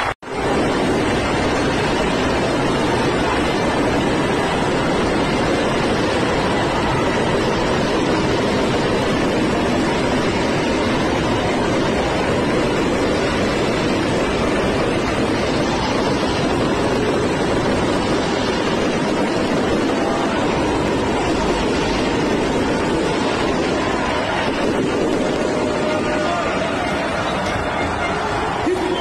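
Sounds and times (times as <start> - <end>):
stadium crowd cheering: 0.0 - 29.0.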